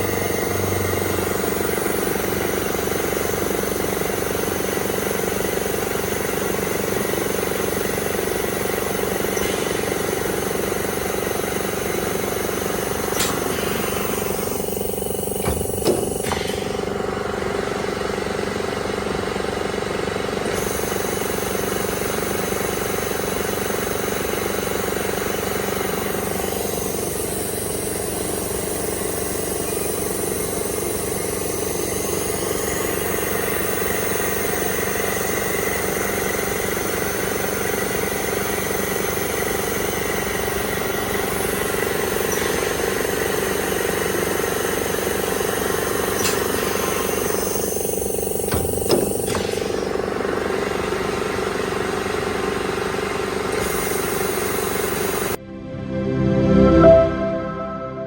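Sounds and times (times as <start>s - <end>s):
circular saw running: 0.0s - 55.4s.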